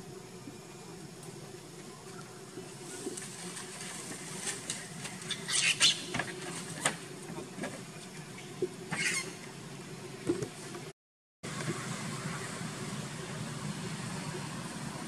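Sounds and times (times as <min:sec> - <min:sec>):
faint steady hum: 0:00.0 - 0:10.9, 0:11.5 - 0:15.0.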